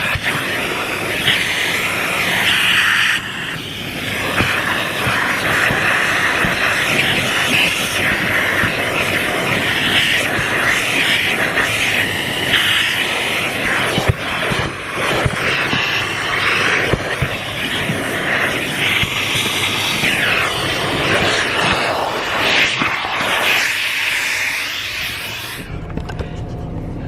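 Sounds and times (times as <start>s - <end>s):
vacuum cleaner whine: 0.0s - 27.0s.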